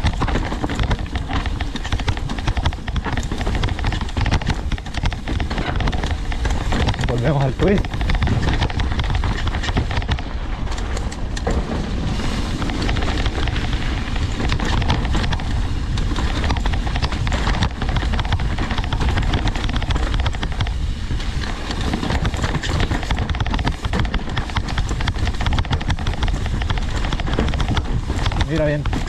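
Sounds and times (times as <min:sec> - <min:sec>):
bike clattering over rough ground: 0:00.0 - 0:29.0
tyres rumbling on dirt: 0:00.0 - 0:29.0
wind rushing over microphone: 0:00.0 - 0:29.0.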